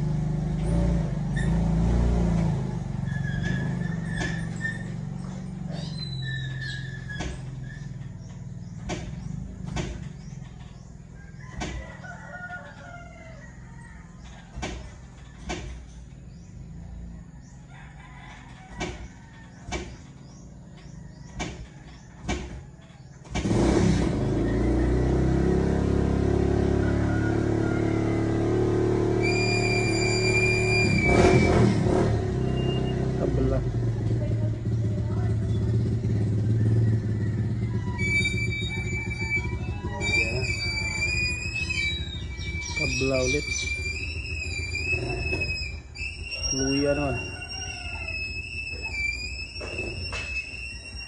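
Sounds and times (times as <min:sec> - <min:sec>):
roosters crowing: 0:00.0 - 0:33.2, 0:35.2 - 0:51.0.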